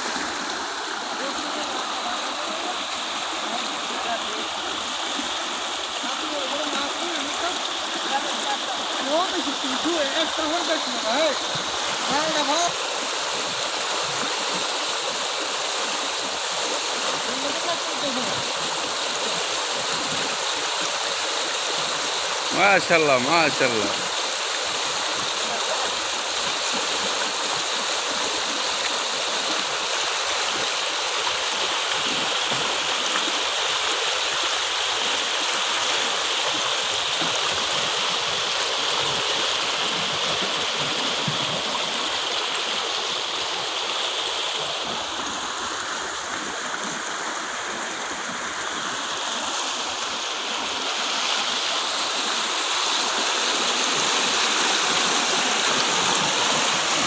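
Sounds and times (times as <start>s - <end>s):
stream rushing and churning: 0.0s - 57.0s.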